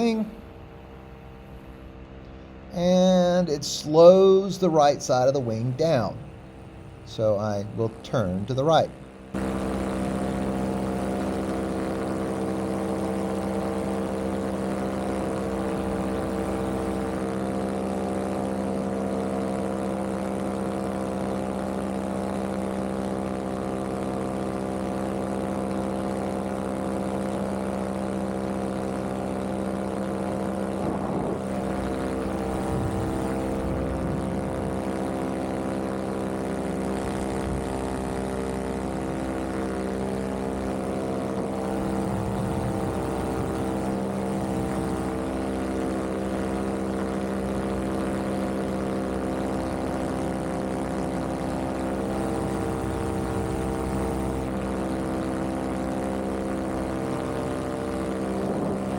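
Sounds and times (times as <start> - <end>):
paramotor engine and propeller: 0.0 - 58.9.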